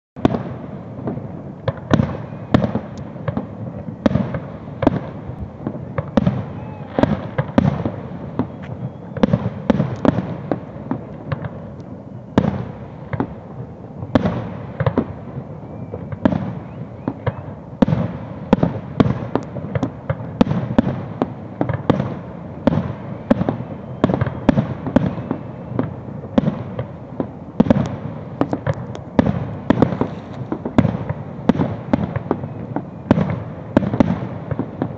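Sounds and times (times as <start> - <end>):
fireworks bursting with bangs: 0.2 - 34.9.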